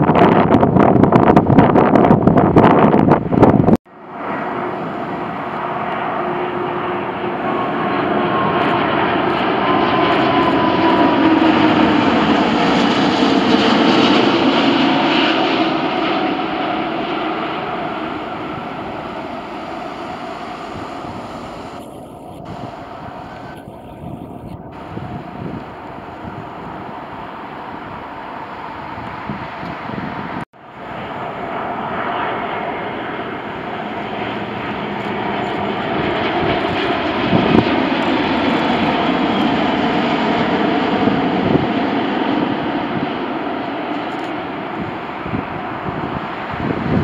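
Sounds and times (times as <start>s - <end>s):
jet airliner passing low overhead: 0.0s - 47.0s
jet engine whine: 0.0s - 47.0s.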